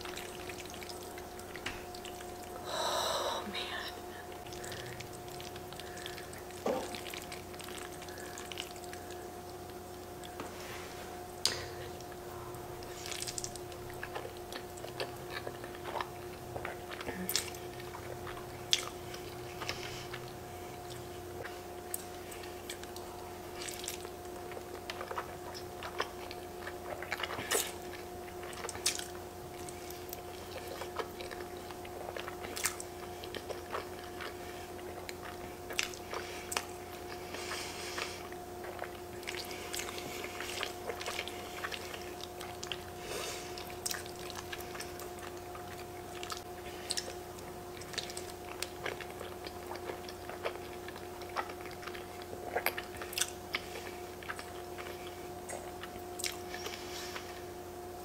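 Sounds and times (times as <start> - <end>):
steady hum: 0.0 - 58.0
person chewing and slurping: 4.2 - 57.5.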